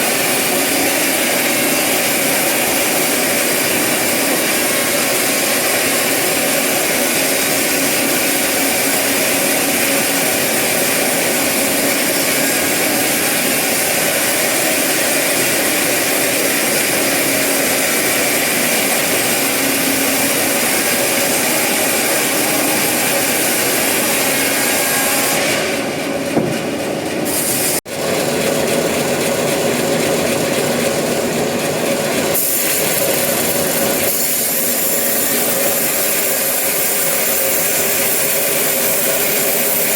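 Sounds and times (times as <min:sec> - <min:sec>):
saw cutting wood with hiss: 0:00.0 - 0:25.9, 0:27.3 - 0:27.8, 0:32.3 - 0:39.9.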